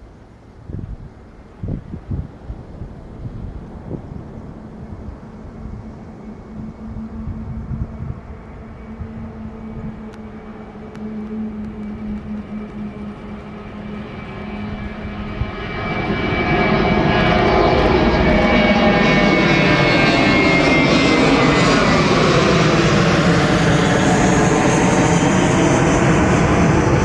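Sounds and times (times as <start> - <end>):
jet airliner taking off: 0.4 - 27.0.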